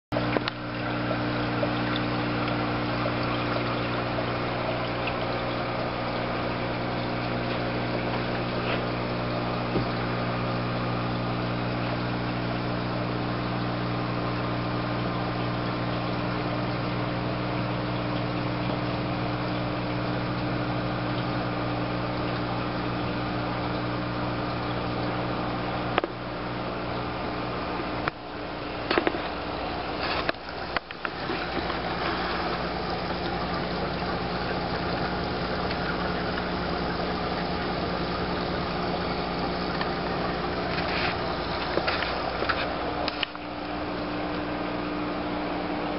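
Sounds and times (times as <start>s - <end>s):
aquarium pump humming: 0.1s - 45.9s
water and air bubbles fizzing: 0.1s - 45.9s.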